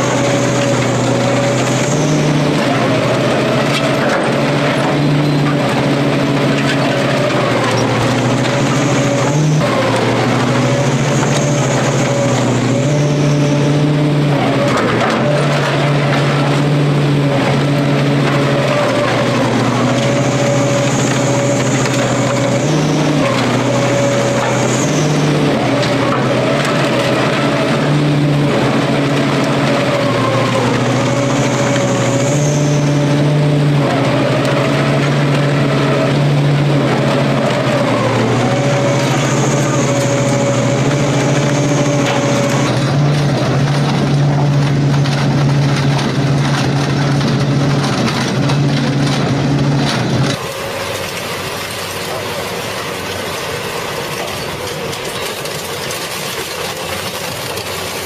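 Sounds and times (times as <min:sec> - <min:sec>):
crusher motor hum: 0:00.0 - 0:58.0
grinding and cracking: 0:00.0 - 0:58.0.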